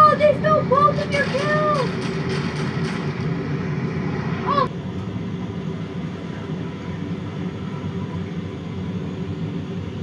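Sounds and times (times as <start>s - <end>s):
train low rumble: 0.0s - 10.0s.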